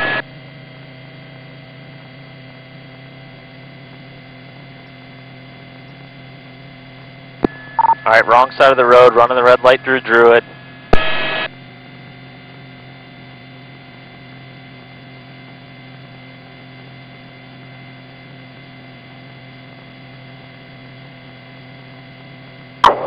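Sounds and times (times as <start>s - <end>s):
electrical hum with constant tones: 0.0s - 23.0s.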